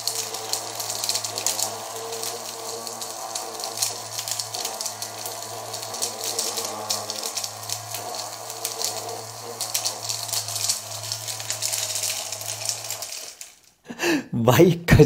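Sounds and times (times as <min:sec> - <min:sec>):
paper scraps rattling in bottle: 0:00.0 - 0:13.8
small vacuum motor humming: 0:00.0 - 0:13.8.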